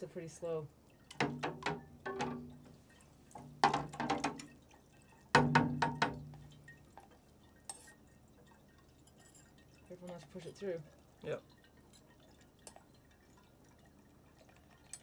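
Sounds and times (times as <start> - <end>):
liquid dripping: 0.0 - 15.0.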